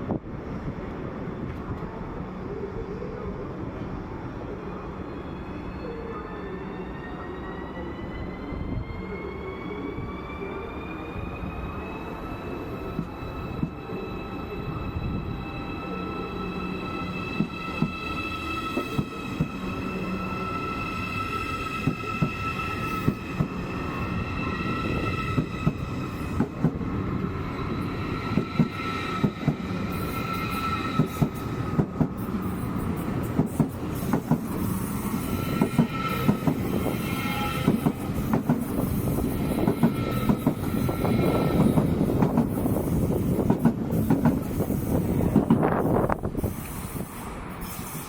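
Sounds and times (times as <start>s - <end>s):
low train rumble: 0.0s - 48.0s
train wheels squealing: 4.6s - 48.0s.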